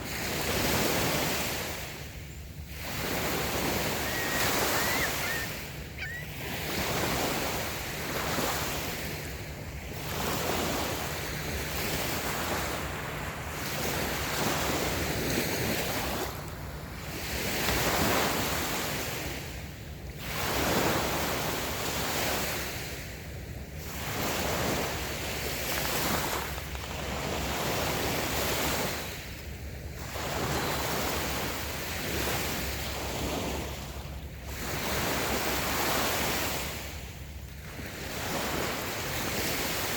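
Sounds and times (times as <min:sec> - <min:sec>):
waves washing on a beach: 0:00.0 - 0:39.9.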